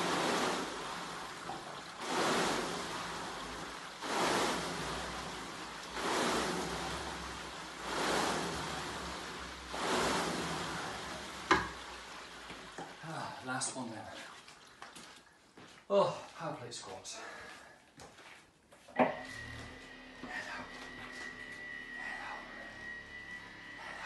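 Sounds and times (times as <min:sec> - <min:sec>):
rowing machine water swoosh: 0:00.0 - 0:15.4, 0:19.0 - 0:24.0.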